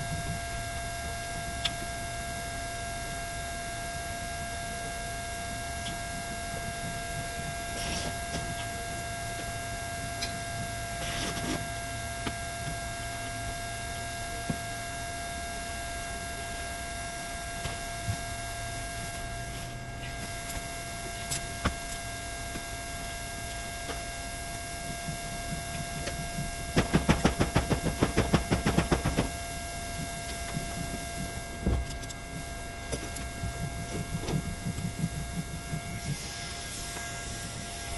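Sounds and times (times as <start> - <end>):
electrical hum with high whine: 0.0 - 37.9.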